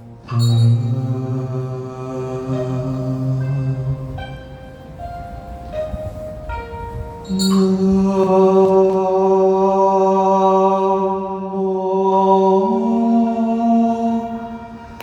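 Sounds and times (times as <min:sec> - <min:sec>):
overtone chanting voice: 0:00.2 - 0:04.6, 0:07.3 - 0:15.0.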